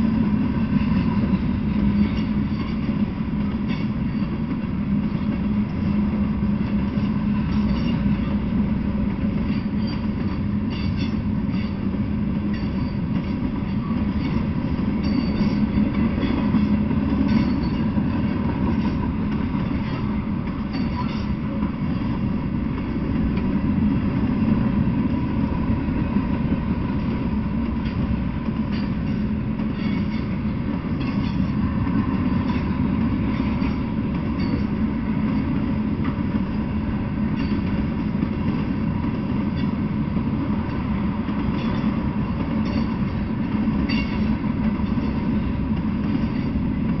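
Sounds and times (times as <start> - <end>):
freight train wheels rumbling on track: 0.0 - 47.0
train wheels clicking: 0.0 - 47.0.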